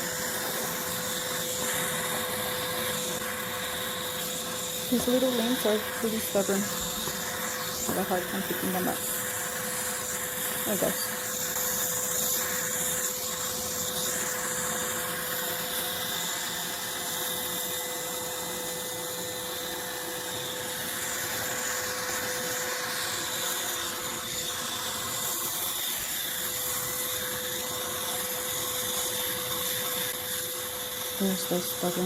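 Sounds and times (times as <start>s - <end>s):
vacuum cleaner suction rush: 0.0s - 32.0s
vacuum motor whine: 0.0s - 32.0s.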